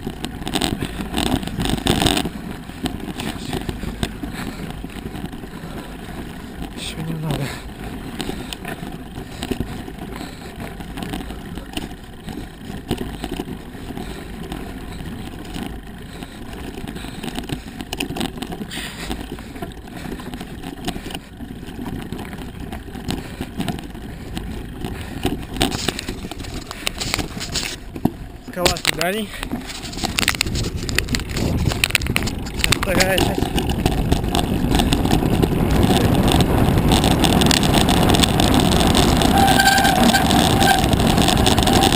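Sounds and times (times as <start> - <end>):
mountain bike rattling on dirt trail: 0.0 - 41.9
small irregular clicks: 0.0 - 41.9.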